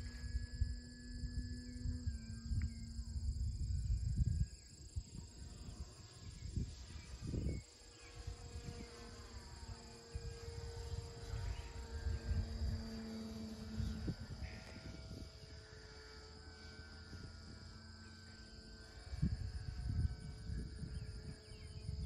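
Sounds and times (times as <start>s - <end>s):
high insect buzz: 0.0s - 22.0s
model plane motor hum: 0.0s - 22.0s
wind rumble on microphone: 0.0s - 22.0s.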